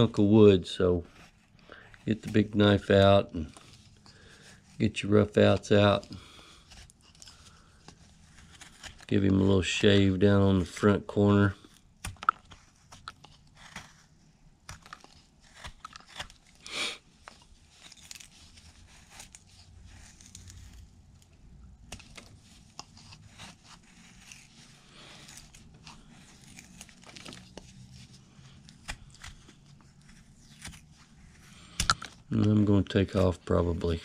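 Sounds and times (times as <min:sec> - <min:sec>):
knife shaving wood: 0:00.0 - 0:34.0.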